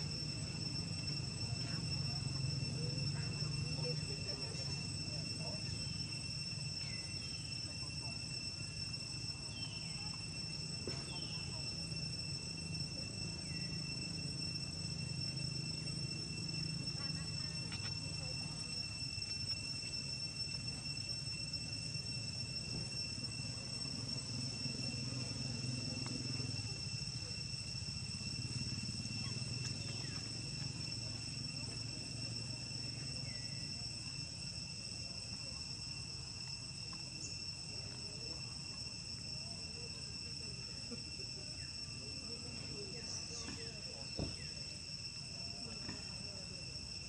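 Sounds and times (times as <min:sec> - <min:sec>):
high-pitched insect drone: 0:00.0 - 0:47.0.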